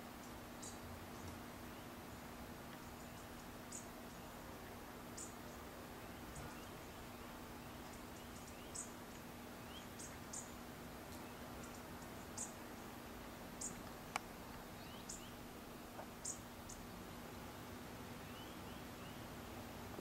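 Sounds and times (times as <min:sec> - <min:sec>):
low steady hum: 0:00.0 - 0:20.0
small birds chirping: 0:00.0 - 0:20.0
steady hiss: 0:00.0 - 0:20.0.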